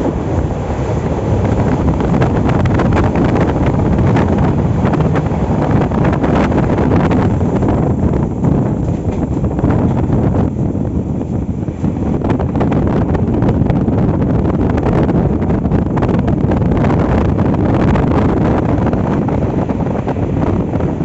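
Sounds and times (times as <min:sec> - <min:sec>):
train rumbling: 0:00.0 - 0:21.0
wind buffeting microphone: 0:00.0 - 0:21.0.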